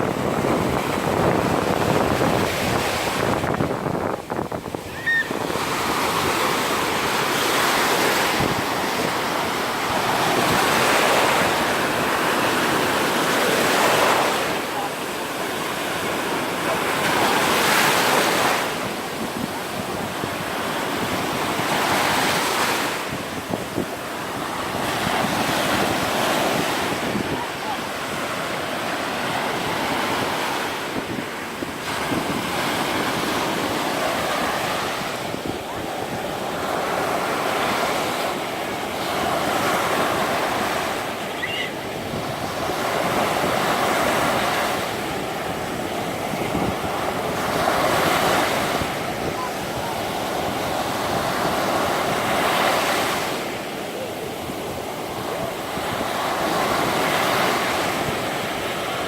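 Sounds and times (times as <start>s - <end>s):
surf breaking on sandy beach: 0.0s - 59.0s
wind buffeting microphone: 0.0s - 59.0s.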